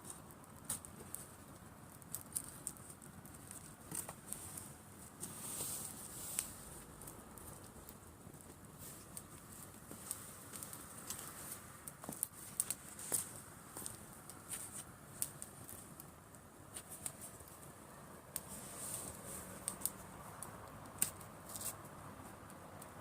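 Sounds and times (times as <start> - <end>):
campfire crackling and popping: 0.0 - 23.0
soft steady hiss: 0.0 - 23.0.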